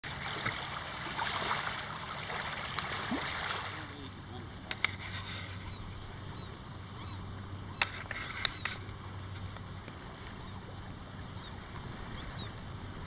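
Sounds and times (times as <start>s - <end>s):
water: 0.0s - 13.0s
wind: 0.0s - 13.0s.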